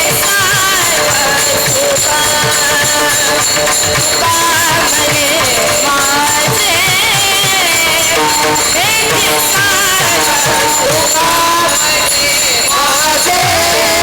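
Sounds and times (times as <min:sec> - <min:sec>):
drum strokes: 0:00.0 - 0:14.0
jingling percussion: 0:00.0 - 0:14.0.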